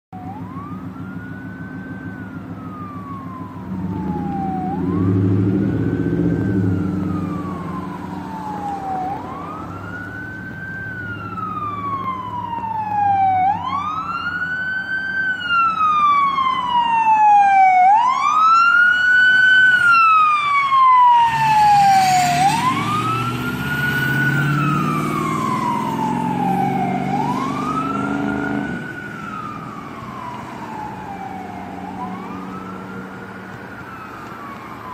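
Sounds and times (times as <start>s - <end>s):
ambulance siren wailing: 0.1s - 34.9s
cars passing: 0.2s - 34.9s.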